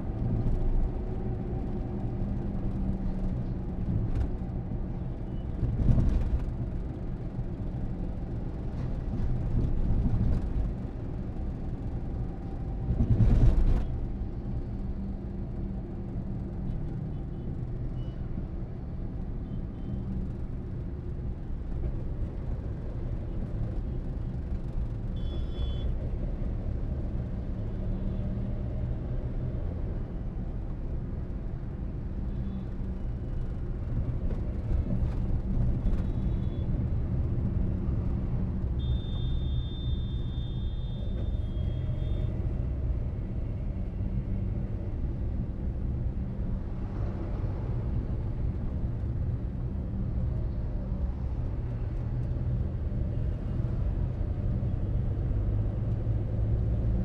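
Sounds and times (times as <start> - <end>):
passing traffic: 0.0 - 57.0.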